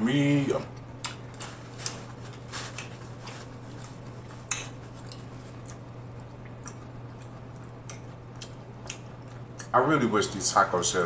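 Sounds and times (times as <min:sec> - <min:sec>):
crunchy taco chewing: 0:00.8 - 0:09.8.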